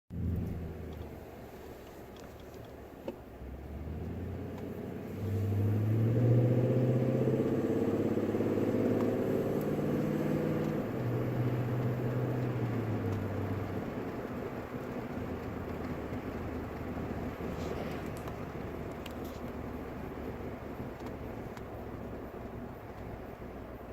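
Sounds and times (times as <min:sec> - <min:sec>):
truck engine drone inside cabin: 0:00.1 - 0:23.9.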